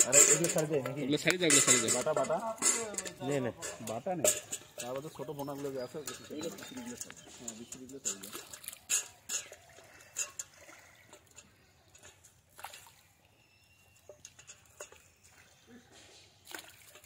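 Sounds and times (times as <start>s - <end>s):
water dripping into pond: 0.0s - 17.0s.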